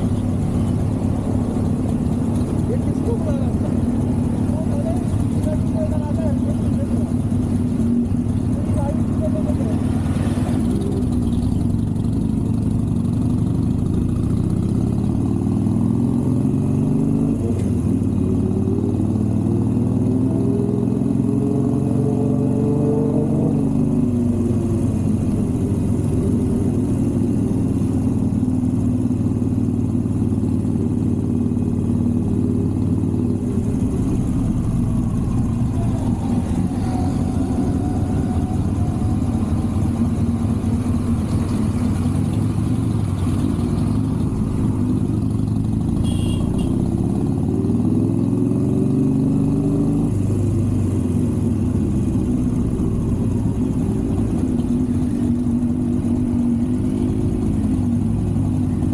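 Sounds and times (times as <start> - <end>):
vehicle engines running: 0.0 - 58.9.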